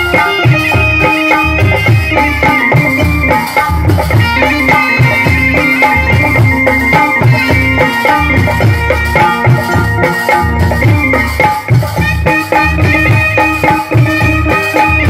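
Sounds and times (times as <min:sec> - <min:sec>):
drums beating: 0:00.0 - 0:15.0
melodic line: 0:00.0 - 0:15.0.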